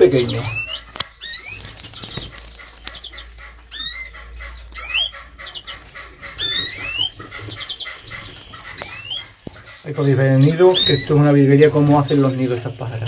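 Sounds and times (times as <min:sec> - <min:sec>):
finches whistled calls: 0:00.0 - 0:12.6.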